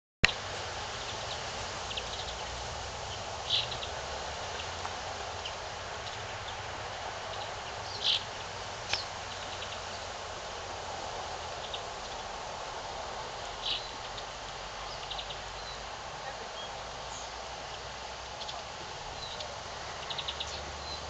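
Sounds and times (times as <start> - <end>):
outdoor background hiss: 0.2 - 21.0.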